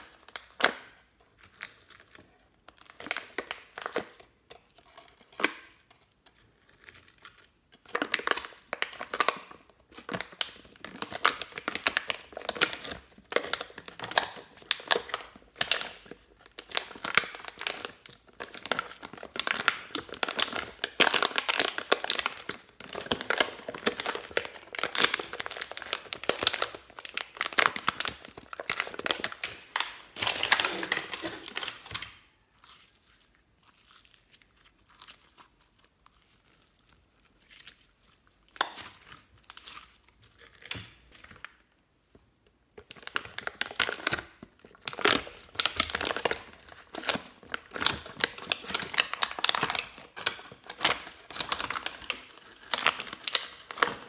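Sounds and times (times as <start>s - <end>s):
sticky slime crackling: 0.0s - 41.7s, 42.7s - 54.0s.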